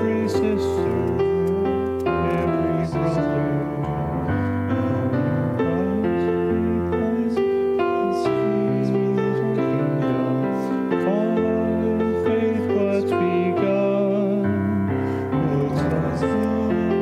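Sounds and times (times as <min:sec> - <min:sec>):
piano playing a hymn: 0:00.0 - 0:17.0.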